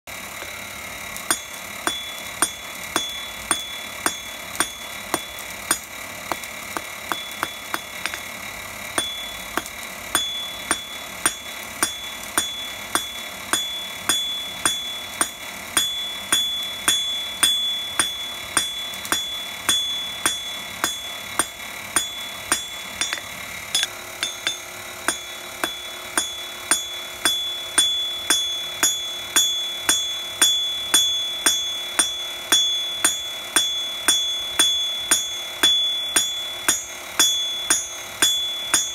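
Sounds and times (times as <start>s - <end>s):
anvil ringing: 1.1s - 38.9s
hammer striking metal on anvil: 1.2s - 38.9s.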